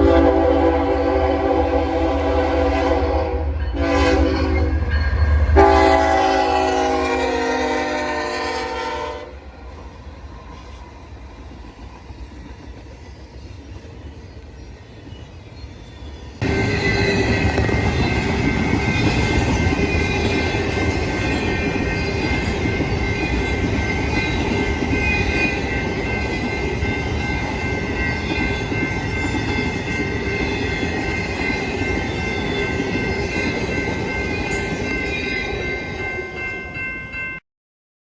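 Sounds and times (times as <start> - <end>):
train wheels rumbling: 0.0 - 36.2.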